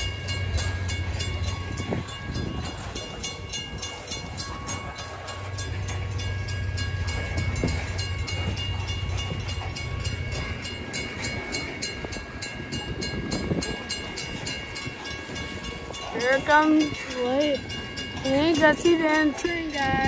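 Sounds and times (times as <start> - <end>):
railroad crossing bell ringing: 0.0 - 20.0.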